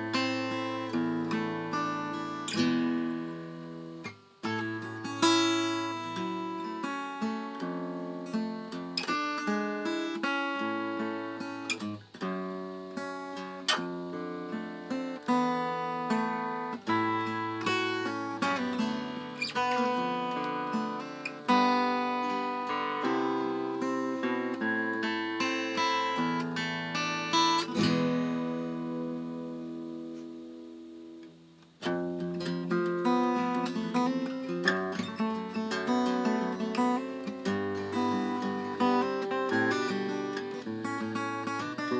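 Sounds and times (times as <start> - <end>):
acoustic guitar chords: 0.0 - 41.9.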